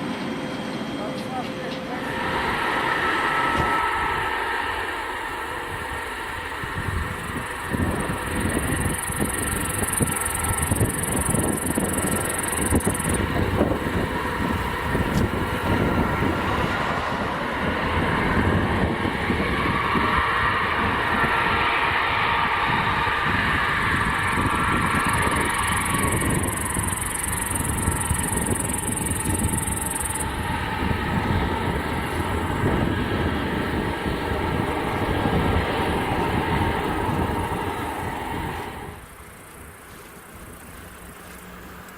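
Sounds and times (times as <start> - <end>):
jet engines roaring on takeoff: 0.0 - 41.9.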